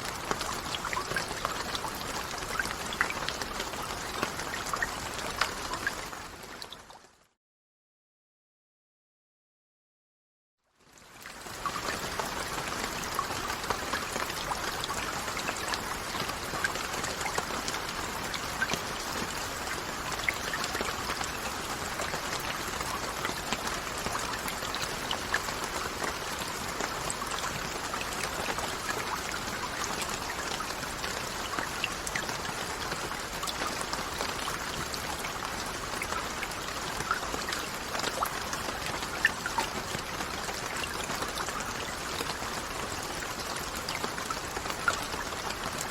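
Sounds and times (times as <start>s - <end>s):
steady rainfall: 0.0s - 7.2s, 10.8s - 45.9s.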